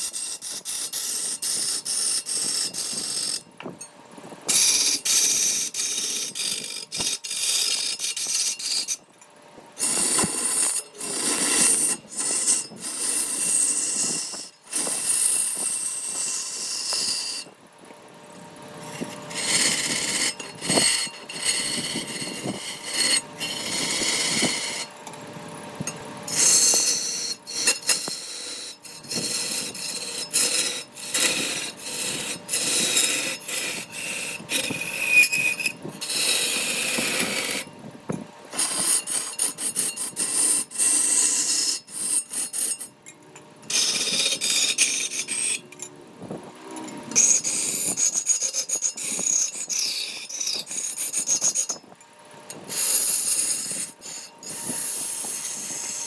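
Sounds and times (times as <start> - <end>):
tool scraping wood: 0.0 - 3.8, 4.5 - 9.0, 9.8 - 17.6, 18.8 - 25.0, 25.8 - 37.7, 38.6 - 42.9, 43.7 - 45.9, 46.8 - 51.9, 52.5 - 56.0.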